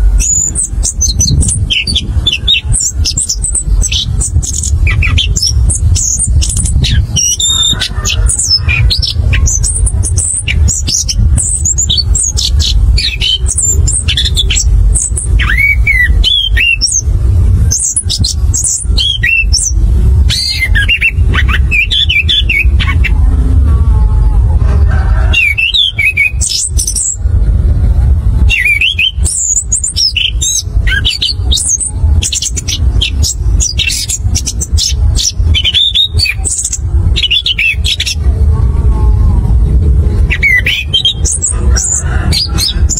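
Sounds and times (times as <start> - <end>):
steady low rumble: 0.0 - 42.9
thrush singing: 0.0 - 42.9.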